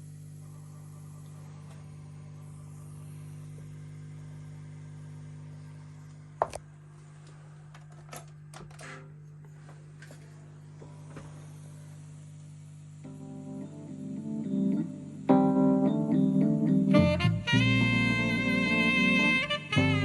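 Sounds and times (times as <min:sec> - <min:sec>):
amplifier mains hum: 0:00.0 - 0:20.0.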